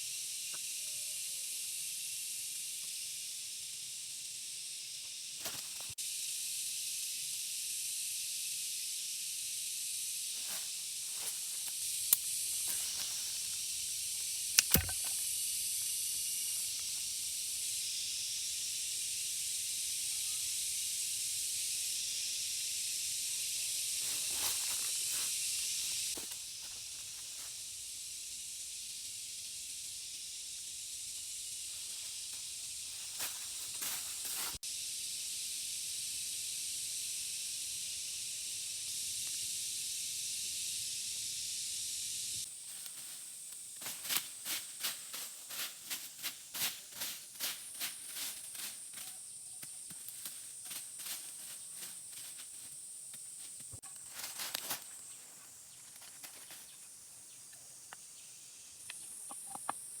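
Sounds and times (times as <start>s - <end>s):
insects chorus: 0.0s - 60.0s
loud pulsing insect calls: 0.0s - 60.0s.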